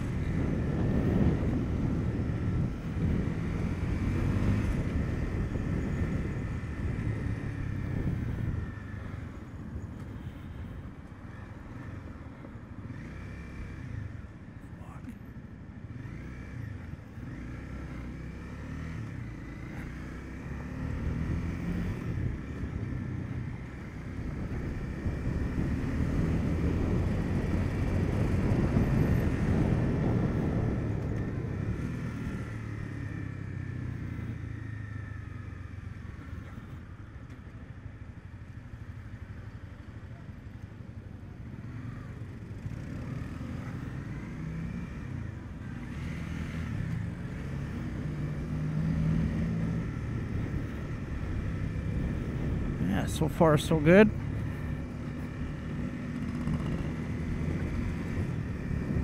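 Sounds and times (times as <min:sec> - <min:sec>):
motorcycle engine revving: 0:00.0 - 0:09.4, 0:12.8 - 0:14.3, 0:15.8 - 0:37.0, 0:41.3 - 0:59.0
road noise: 0:00.0 - 0:59.0.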